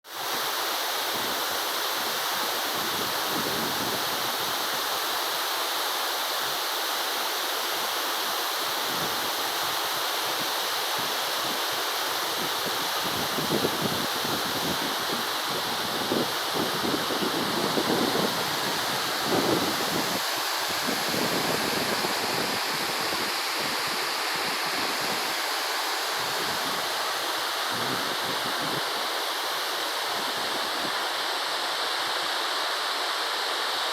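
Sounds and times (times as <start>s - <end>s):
river water rushing: 0.1s - 33.9s
water surges: 0.1s - 33.9s.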